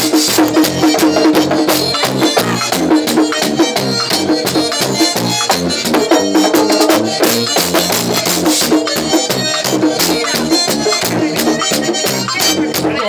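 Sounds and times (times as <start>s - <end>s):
button accordion: 0.0s - 13.0s
drum beat: 0.0s - 13.0s
electric bass: 0.0s - 13.0s.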